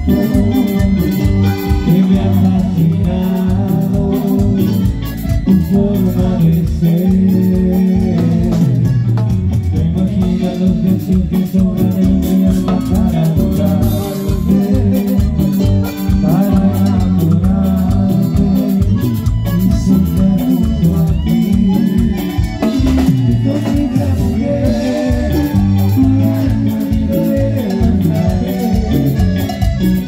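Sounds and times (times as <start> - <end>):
accordion chords: 0.0 - 30.0
congas and timbales: 0.0 - 30.0
man singing: 0.0 - 30.0.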